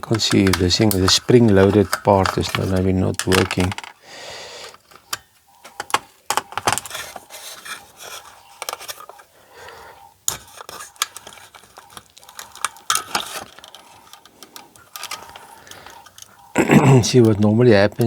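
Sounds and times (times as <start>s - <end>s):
plastic and metal parts clicking: 0.0s - 4.0s, 4.6s - 18.0s.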